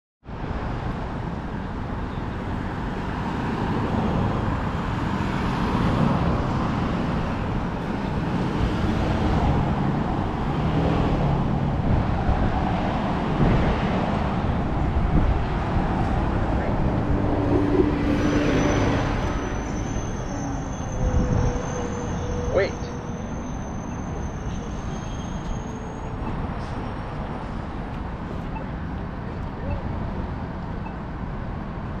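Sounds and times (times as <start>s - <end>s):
traffic driving past: 0.4s - 32.0s.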